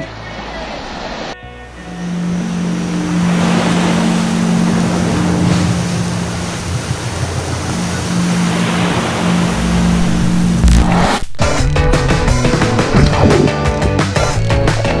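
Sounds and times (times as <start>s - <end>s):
ocean surf washing in: 0.0s - 13.6s
low hum: 1.5s - 13.6s.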